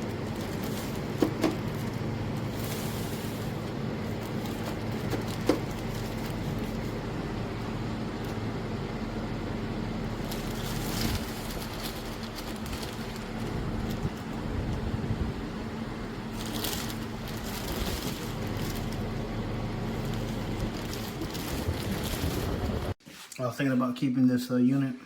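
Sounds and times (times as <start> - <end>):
low mechanical hum: 0.0 - 23.5.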